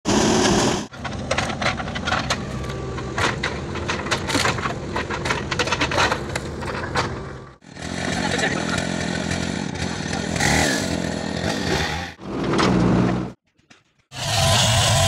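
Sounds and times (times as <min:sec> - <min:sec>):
diesel engine running: 0:00.1 - 0:13.4
wood and earth cracking: 0:00.9 - 0:14.0.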